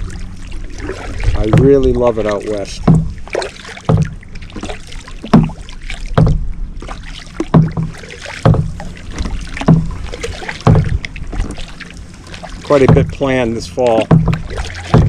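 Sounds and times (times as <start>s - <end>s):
kayak paddle strokes in water: 0.0s - 15.0s.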